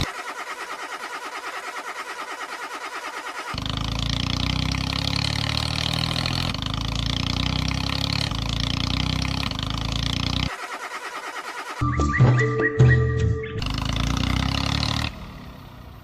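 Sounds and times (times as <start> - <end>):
tractor engine chugging: 0.0 - 16.0.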